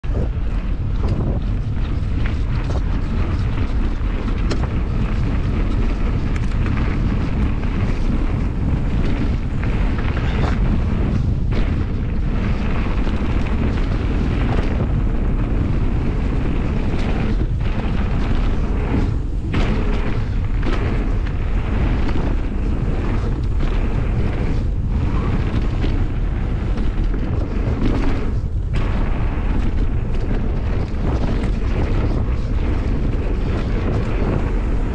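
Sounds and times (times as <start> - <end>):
bike knocks and rattles: 0.0 - 34.9
bike tyres rolling on gravel: 0.0 - 34.9
wind buffeting microphone: 0.0 - 34.9.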